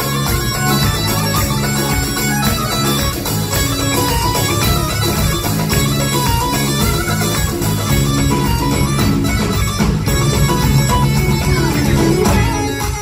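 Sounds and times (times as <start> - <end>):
hand drums beat: 0.0 - 13.0
live band music: 0.0 - 13.0.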